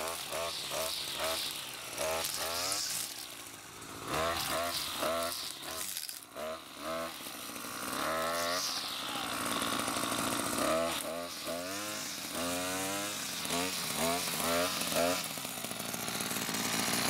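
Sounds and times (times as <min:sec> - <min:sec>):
string trimmer engine revving: 0:00.0 - 0:17.0.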